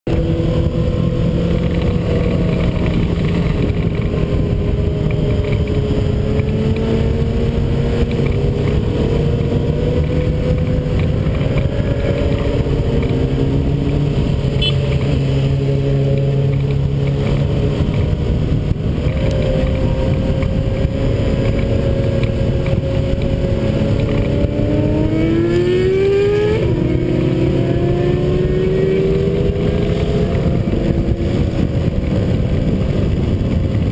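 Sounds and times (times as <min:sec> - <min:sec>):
motorcycle engine revving: 0:00.1 - 0:33.9
motorcycles passing: 0:00.1 - 0:33.9.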